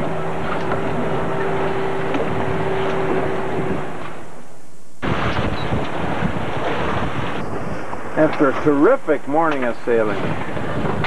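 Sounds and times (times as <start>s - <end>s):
wind rushing: 0.0s - 4.4s, 5.0s - 11.0s
low steady hum: 0.0s - 11.0s.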